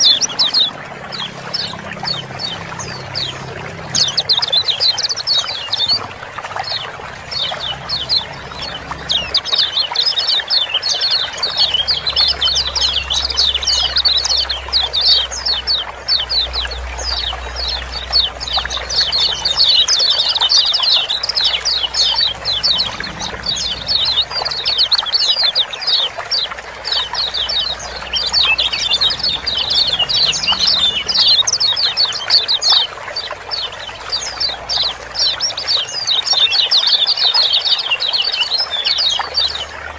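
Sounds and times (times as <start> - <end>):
birds chattering chirps: 0.0 - 39.9
water trickling: 0.0 - 39.9.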